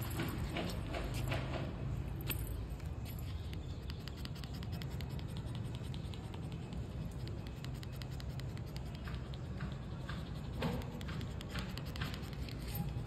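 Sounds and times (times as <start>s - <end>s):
puppy paws pattering on tiles: 0.0s - 13.0s.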